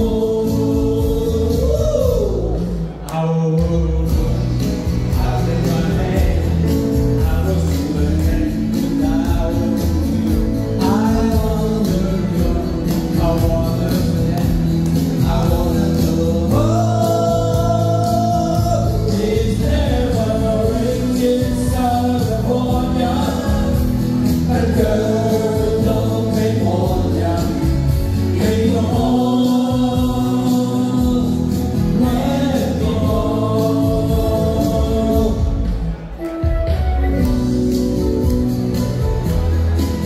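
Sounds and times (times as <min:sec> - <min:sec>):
group singing pop song: 0:00.0 - 0:36.2
bass: 0:00.0 - 0:40.0.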